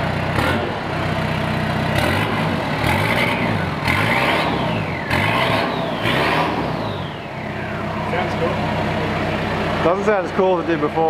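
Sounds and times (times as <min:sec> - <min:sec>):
diesel engine idling and revving: 0:00.0 - 0:11.0.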